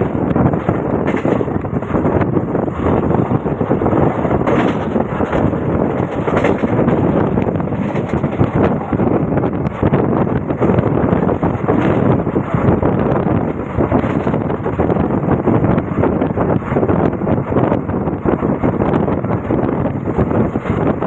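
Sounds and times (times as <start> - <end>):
train wheels rumbling on rails: 0.0 - 21.0
wind buffeting microphone: 0.0 - 21.0.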